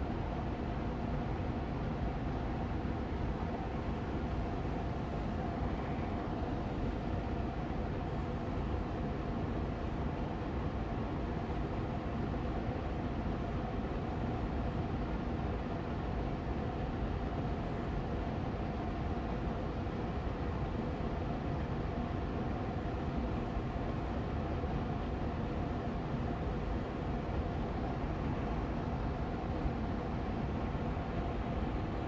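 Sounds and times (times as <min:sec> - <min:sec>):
air purifier fan running: 0:00.0 - 0:32.0.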